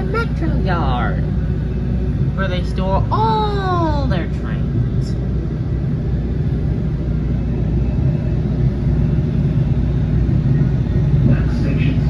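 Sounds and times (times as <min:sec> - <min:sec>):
train rumbling in motion: 0:00.0 - 0:12.0.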